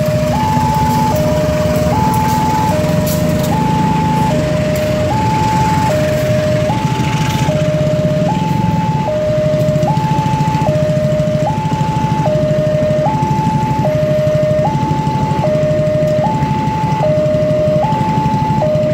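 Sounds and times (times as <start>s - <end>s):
train wheels clicking on rails: 0.0s - 18.7s
diesel locomotive engine drone: 0.0s - 18.9s
level crossing two-tone alarm: 0.0s - 18.9s.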